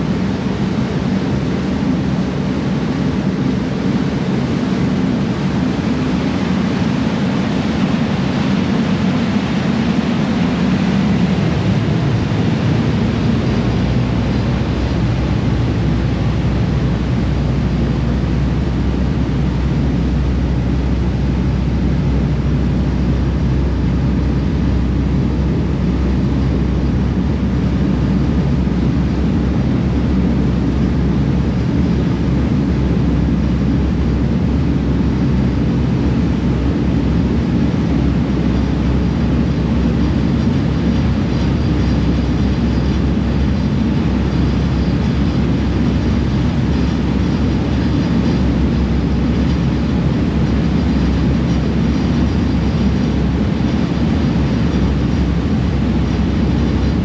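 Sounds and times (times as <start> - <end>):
rushing wake water: 0.0 - 57.0
ship engines droning: 0.0 - 57.0.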